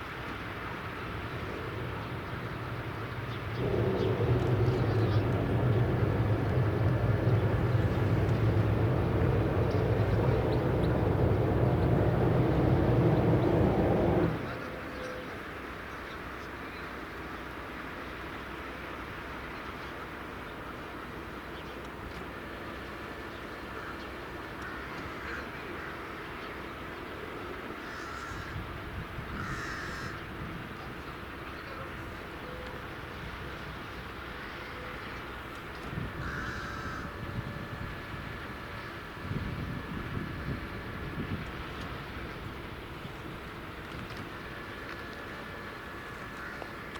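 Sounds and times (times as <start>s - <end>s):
locomotive low drone: 0.0s - 27.8s, 30.1s - 46.9s
train rumble: 0.0s - 46.9s.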